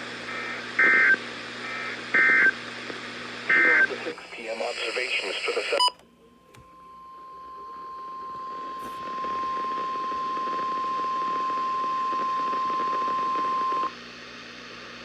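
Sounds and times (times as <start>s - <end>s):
radio static hiss: 0.0s - 6.0s, 7.6s - 15.0s.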